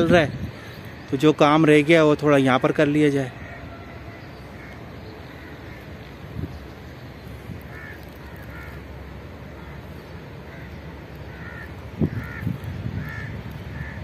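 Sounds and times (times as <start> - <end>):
crows cawing: 2.5 - 14.0.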